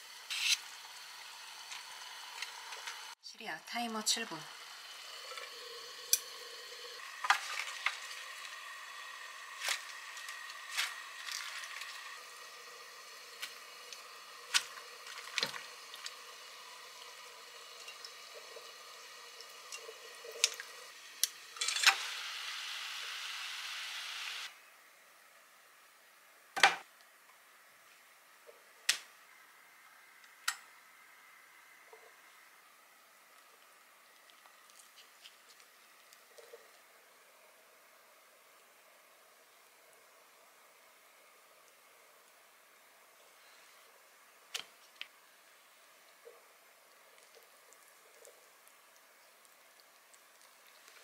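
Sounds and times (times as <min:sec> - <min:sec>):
water boiling and steaming: 0:00.0 - 0:25.9, 0:29.2 - 0:51.0.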